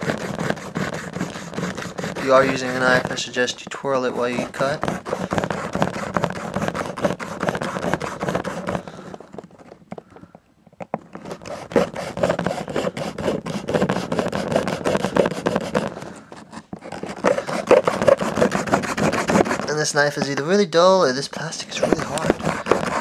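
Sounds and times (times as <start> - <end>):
knife sawing hard plastic: 0.0 - 9.4, 11.1 - 20.4, 21.7 - 23.0.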